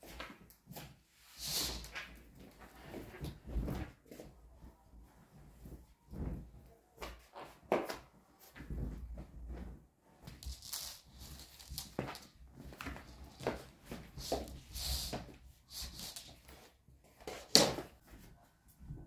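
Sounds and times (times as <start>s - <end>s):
bedding fabric rustling and swishing: 0.0s - 17.2s.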